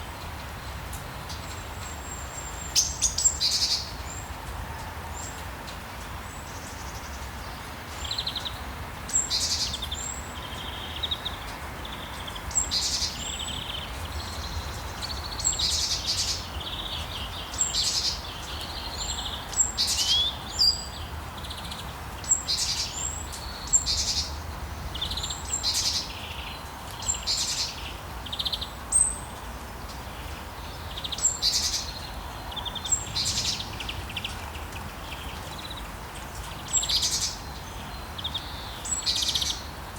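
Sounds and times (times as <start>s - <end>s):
low background noise: 0.0s - 39.9s
birds chirping: 6.3s - 39.7s.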